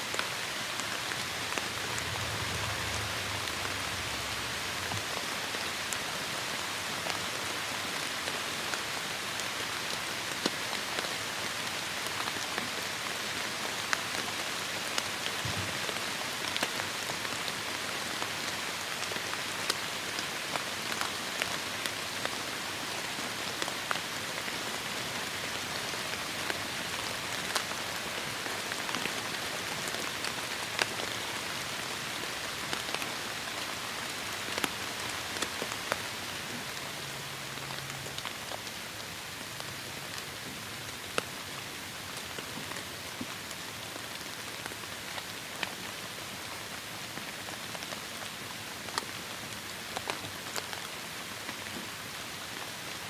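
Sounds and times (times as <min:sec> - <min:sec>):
heavy rain falling: 0:00.0 - 0:51.7.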